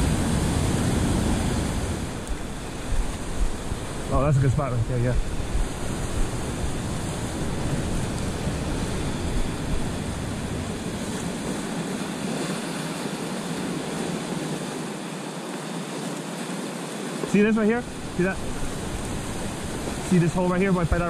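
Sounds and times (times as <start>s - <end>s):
wind rumble on microphone: 0.0s - 14.8s, 17.3s - 21.0s
surf breaking over rocks: 0.0s - 21.0s.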